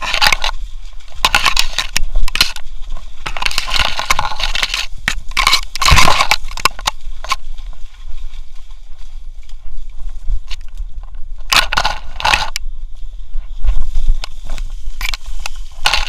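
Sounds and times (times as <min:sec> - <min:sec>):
grass and reeds rustling: 0:00.0 - 0:16.0.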